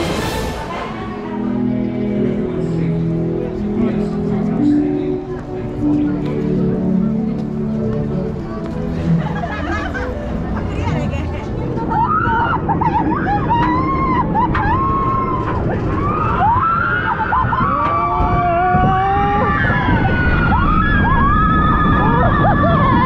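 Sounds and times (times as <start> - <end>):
roller coaster rumbling: 0.0 - 23.0.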